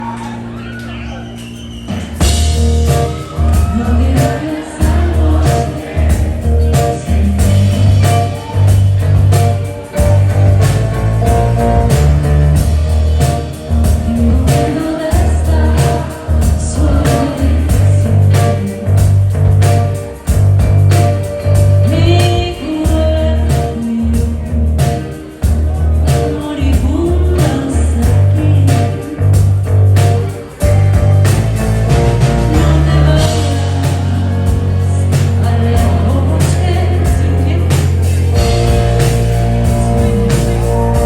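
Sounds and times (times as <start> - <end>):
live rock band playing: 0.0 - 41.0
person singing: 2.2 - 31.2, 31.9 - 41.0.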